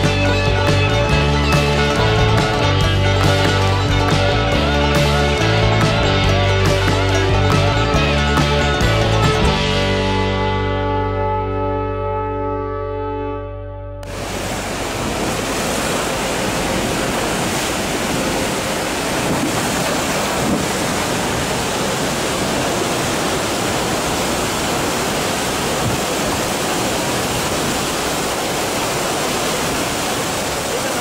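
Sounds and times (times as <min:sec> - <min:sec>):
waterfall rushing: 0:00.0 - 0:08.8, 0:14.0 - 0:31.0.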